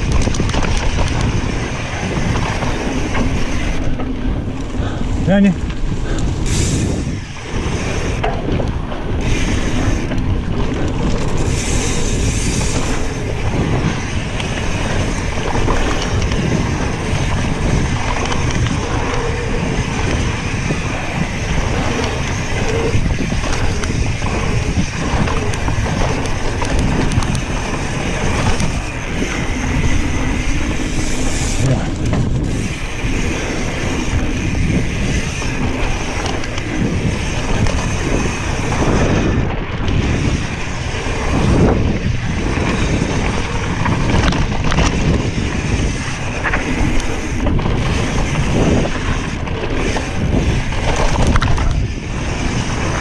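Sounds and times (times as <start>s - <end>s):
bike rattling: 0.0s - 53.0s
tyres rumbling on dirt: 0.0s - 53.0s
wind buffeting microphone: 0.0s - 53.0s.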